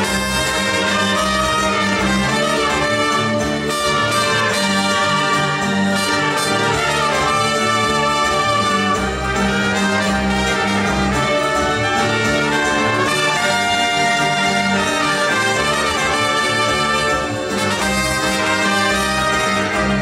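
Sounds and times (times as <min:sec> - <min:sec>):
live band playing: 0:00.0 - 0:20.0
trumpet: 0:00.0 - 0:20.0.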